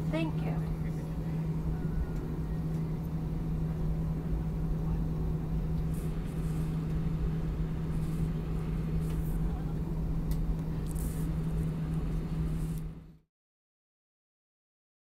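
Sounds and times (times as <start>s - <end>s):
airplane engines idling in cabin: 0.0s - 13.2s.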